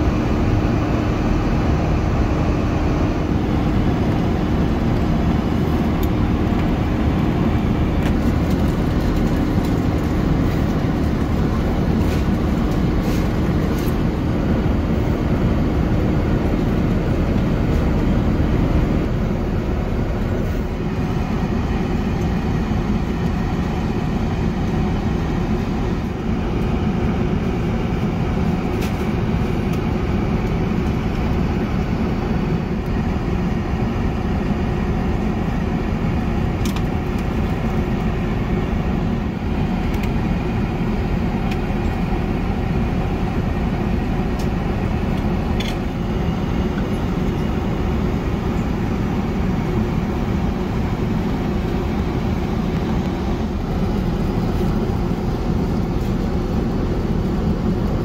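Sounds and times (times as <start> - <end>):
airplane cabin engine rush: 0.0 - 58.0.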